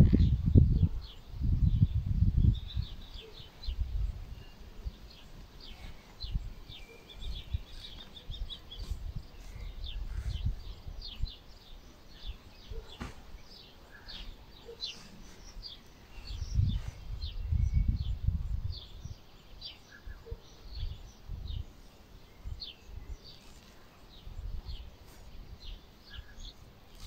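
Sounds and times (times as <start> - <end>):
wind rumbling on microphone: 0.0 - 12.9, 15.6 - 23.5, 24.1 - 27.0
small birds chirping: 0.0 - 27.0.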